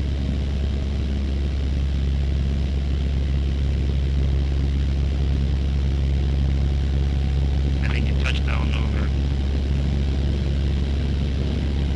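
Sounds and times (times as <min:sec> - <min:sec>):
propeller plane engine drone: 0:00.0 - 0:11.9.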